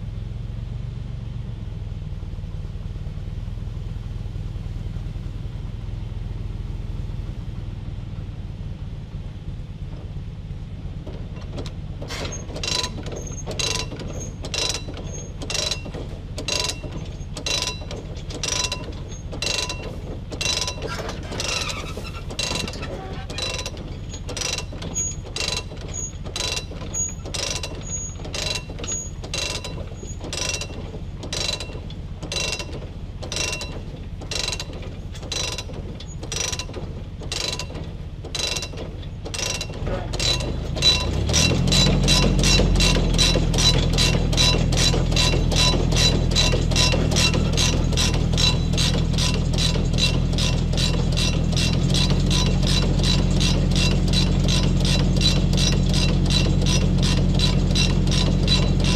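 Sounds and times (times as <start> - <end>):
tractor engine running: 0.0 - 58.9
ratchet drive clicking: 11.6 - 58.9.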